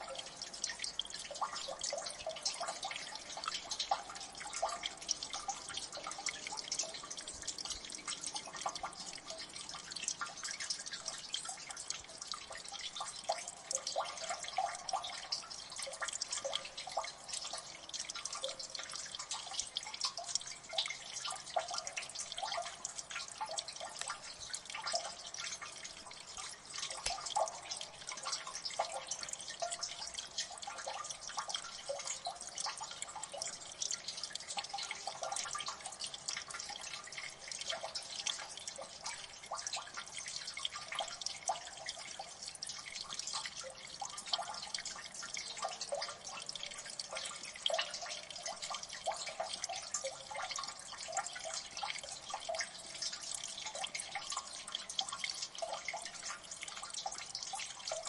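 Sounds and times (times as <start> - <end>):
water dripping: 0.0 - 58.0.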